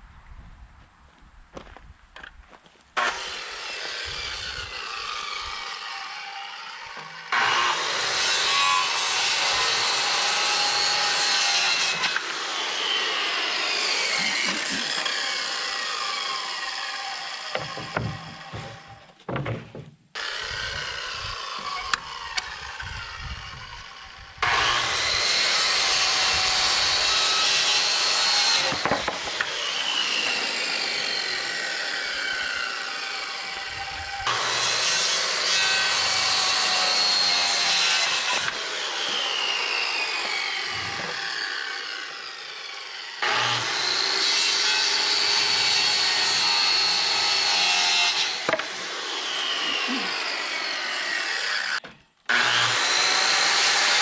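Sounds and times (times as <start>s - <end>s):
circular saw cutting wood: 3.0s - 19.1s, 20.1s - 54.0s.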